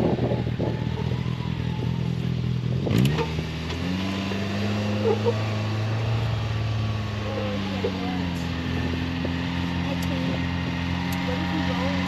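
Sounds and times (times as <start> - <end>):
utv engine running: 0.0 - 12.0.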